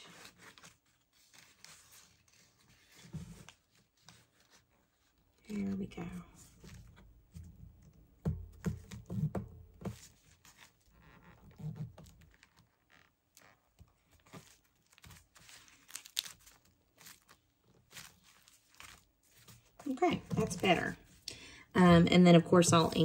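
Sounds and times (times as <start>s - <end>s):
paper rustling and crinkling: 0.0s - 7.0s, 9.8s - 21.2s.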